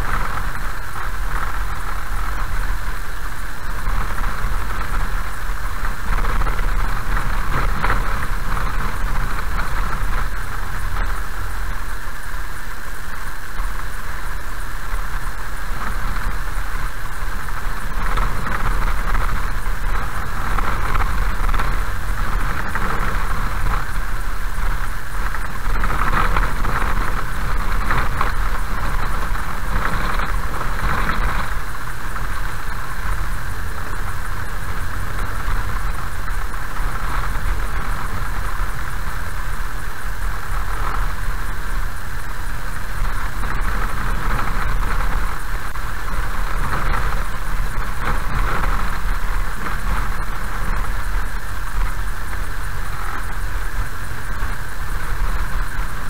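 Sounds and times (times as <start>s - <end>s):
car engine and tyre rumble: 0.0s - 56.0s
gravel road noise: 0.0s - 56.0s.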